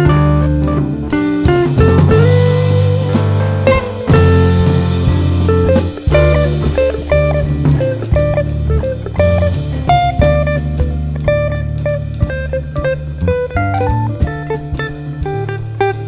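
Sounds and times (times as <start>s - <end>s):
bass: 0.0s - 16.0s
drum kit: 0.0s - 16.0s
guitar-led blues music: 0.0s - 16.0s.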